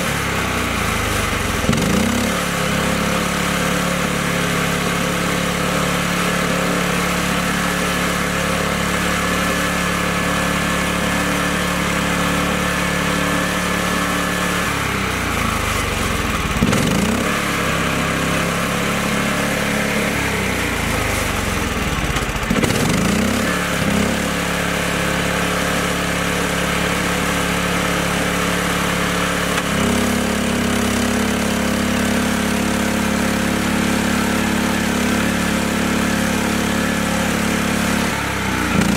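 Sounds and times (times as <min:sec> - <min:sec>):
tractor engine labouring: 0:00.0 - 0:38.9.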